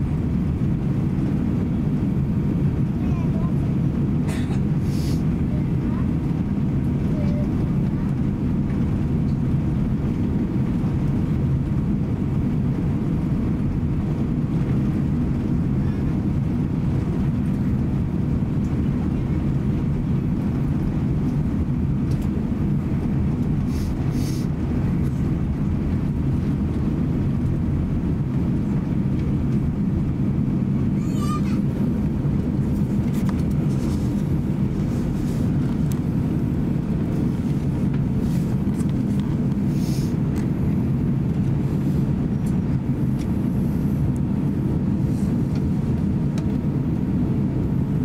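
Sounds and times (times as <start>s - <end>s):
aircraft engines rumbling: 0.0s - 48.0s.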